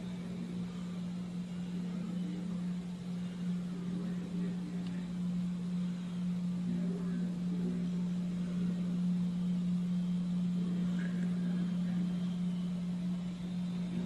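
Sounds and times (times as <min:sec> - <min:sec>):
faint background noise: 0:00.0 - 0:14.0
steady low hum: 0:00.0 - 0:14.0.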